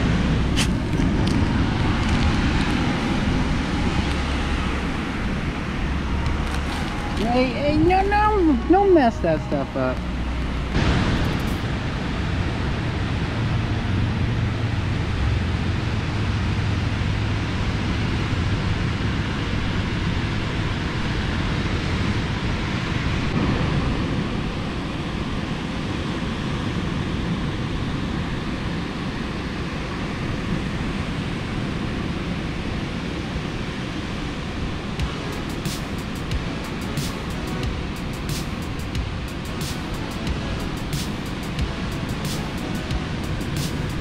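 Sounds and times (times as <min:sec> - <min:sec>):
ocean surf breaking: 0:00.0 - 0:15.7, 0:22.4 - 0:44.0.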